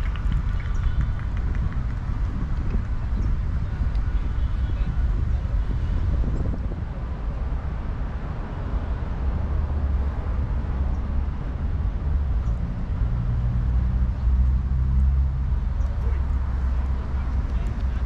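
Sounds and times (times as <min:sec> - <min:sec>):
motor vehicle engine rumble: 0:00.0 - 0:18.0.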